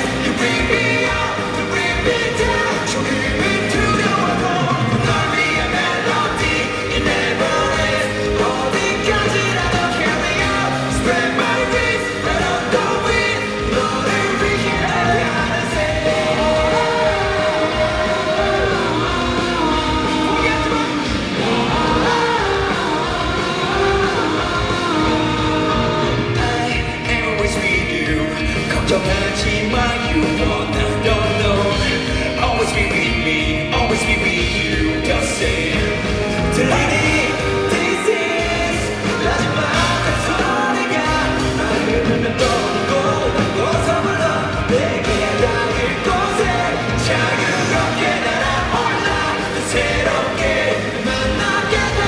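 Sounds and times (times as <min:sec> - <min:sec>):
live rock band playing: 0:00.0 - 0:52.0
person singing: 0:00.0 - 0:52.0.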